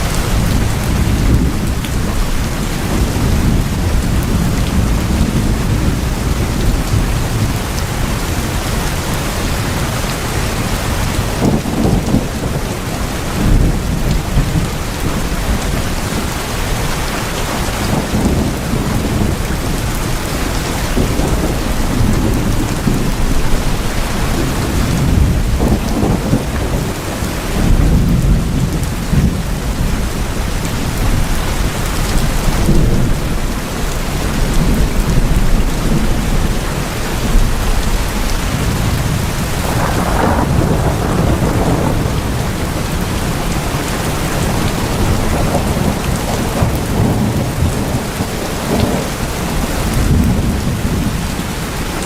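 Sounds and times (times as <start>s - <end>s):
heavy rain on tin roofs: 0.0s - 52.0s.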